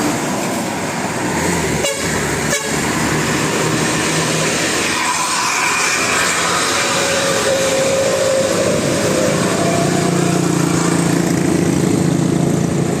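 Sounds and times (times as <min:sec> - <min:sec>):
bus engine running: 0:00.0 - 0:13.0
traffic noise: 0:00.0 - 0:13.0.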